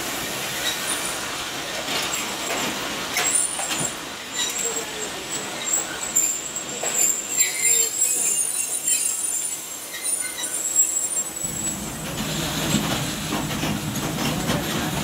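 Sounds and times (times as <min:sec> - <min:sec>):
high whine of train wheels: 0:00.0 - 0:15.0
low train rumble: 0:00.0 - 0:15.0.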